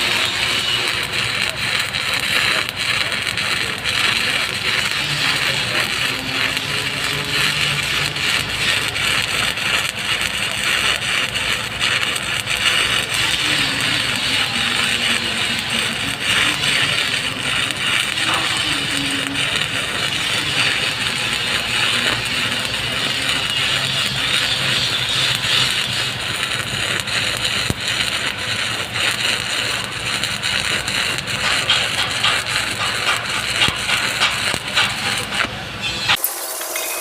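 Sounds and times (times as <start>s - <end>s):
welding arc crackling: 0.0s - 37.0s.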